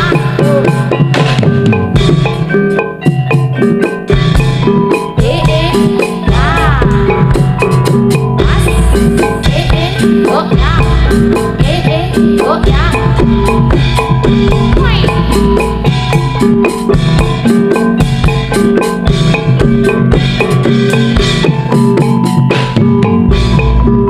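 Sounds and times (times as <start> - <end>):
metallophone music over drums and bass: 0.0 - 24.0.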